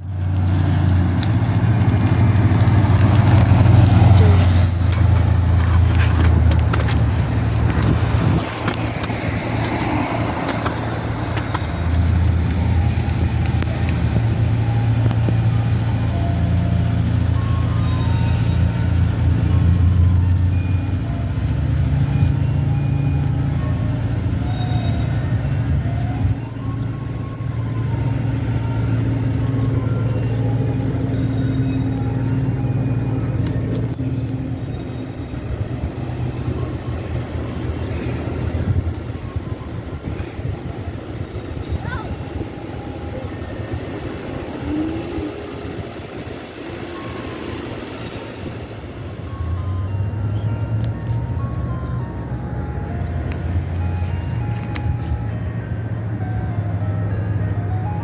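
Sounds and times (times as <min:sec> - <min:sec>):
low rumble of traffic: 0:00.0 - 0:58.0
ice cream truck chime melody: 0:10.9 - 0:58.0.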